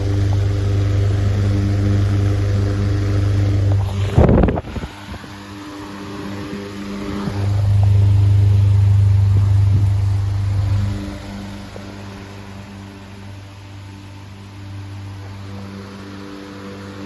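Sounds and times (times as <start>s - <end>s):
loud low hum: 0.0s - 17.0s
table fan motor hum: 0.0s - 17.0s.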